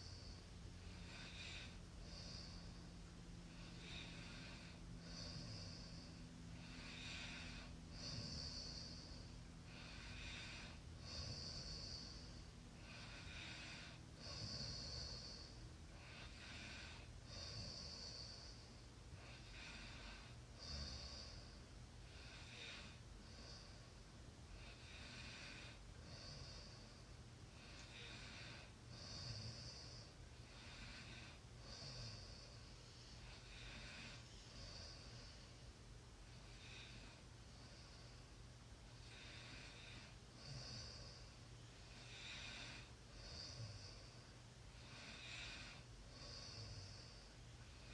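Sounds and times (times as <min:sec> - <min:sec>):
faint snoring: 0:00.0 - 0:38.3, 0:38.9 - 0:47.9.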